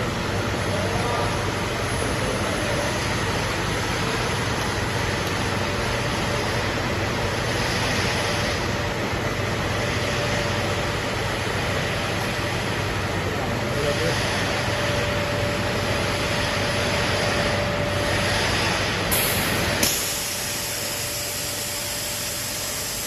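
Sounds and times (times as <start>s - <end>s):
machinery humming and hissing: 0.0s - 23.0s.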